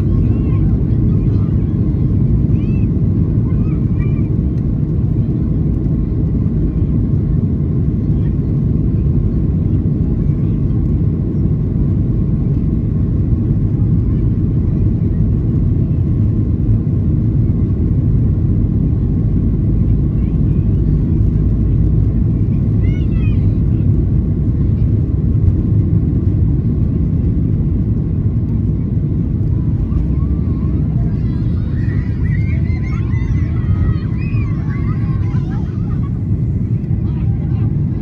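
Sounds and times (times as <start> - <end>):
jet engines deep rumble: 0.0 - 38.0.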